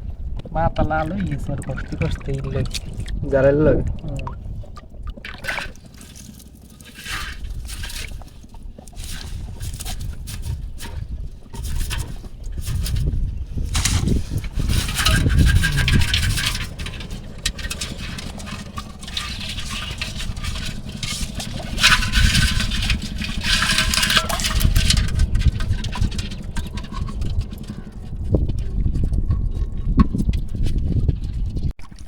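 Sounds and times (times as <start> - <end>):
steady low rumble: 0.0 - 31.8
water splashing and sloshing: 0.0 - 32.0.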